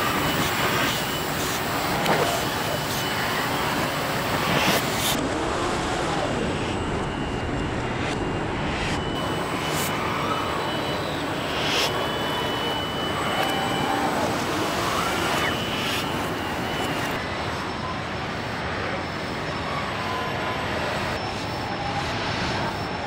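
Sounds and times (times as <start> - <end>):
roar of machinery and air: 0.0 - 23.0.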